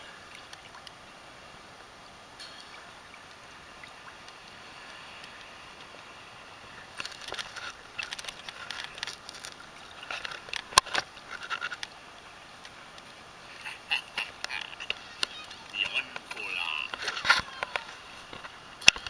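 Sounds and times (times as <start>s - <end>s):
seawater splashing and lapping: 0.0s - 19.0s.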